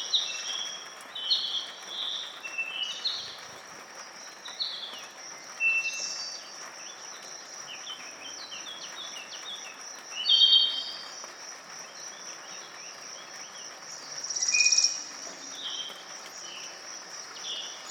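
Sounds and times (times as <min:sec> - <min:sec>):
forest birds singing and calling: 0:00.0 - 0:17.9.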